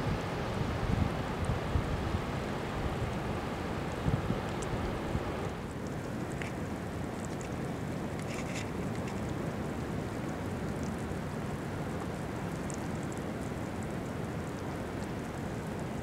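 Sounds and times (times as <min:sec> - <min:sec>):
distant surf on rocky shore: 0:00.0 - 0:16.0.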